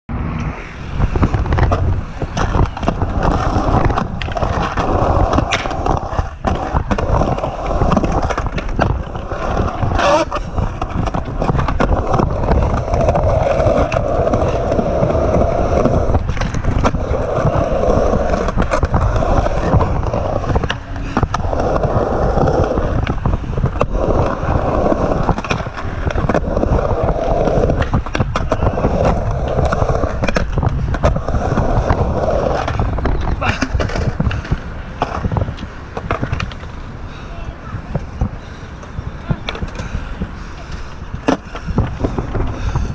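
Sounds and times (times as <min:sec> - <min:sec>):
skateboard wheels rolling: 0:00.1 - 0:42.9
skateboard clacks and knocks: 0:01.0 - 0:42.9.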